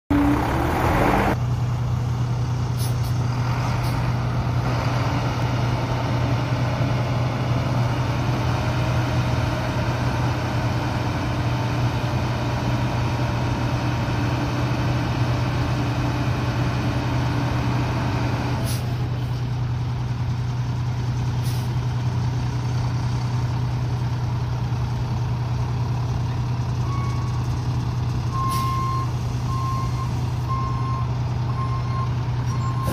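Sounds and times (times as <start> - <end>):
diesel engine idling: 0.1 - 32.9.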